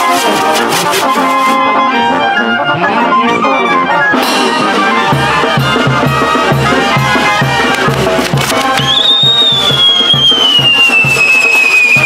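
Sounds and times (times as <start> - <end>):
brass band tune: 0.0 - 12.0.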